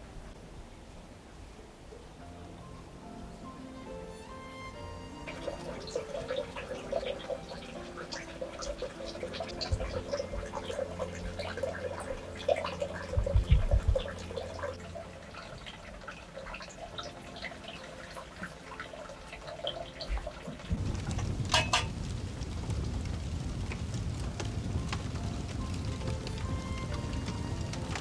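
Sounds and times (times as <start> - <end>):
water dripping: 1.6 - 28.0.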